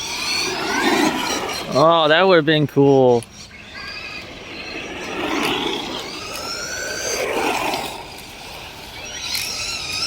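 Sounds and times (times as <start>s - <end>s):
electric motors whining: 0.0s - 10.0s.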